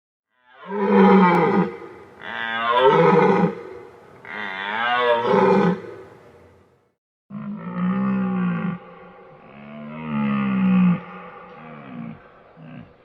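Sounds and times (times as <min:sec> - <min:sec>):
deer roaring: 0:00.5 - 0:06.1, 0:07.3 - 0:12.9.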